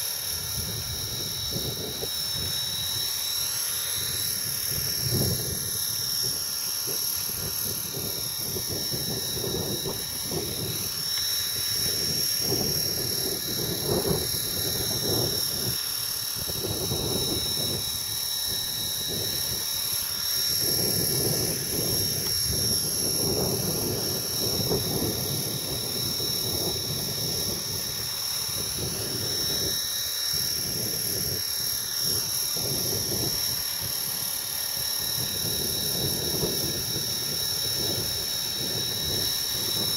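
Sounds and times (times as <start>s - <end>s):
rc helicopter rotor whine: 0.0s - 39.9s
wind rumbling on microphone: 0.0s - 39.9s.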